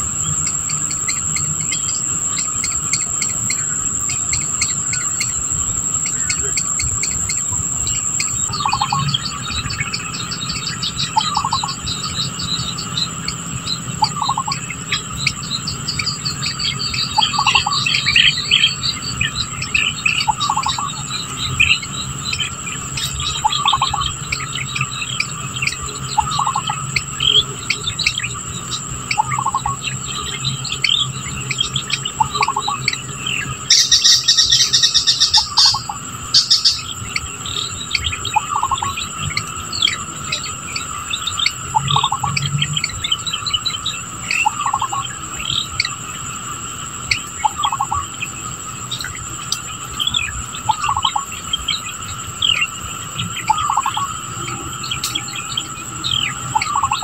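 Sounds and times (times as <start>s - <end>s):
bird call: 0.0s - 46.1s, 46.9s - 57.0s
birds chirping and tweeting: 0.0s - 57.0s
high insect trill: 0.0s - 57.0s
loud insect buzz: 0.0s - 57.0s.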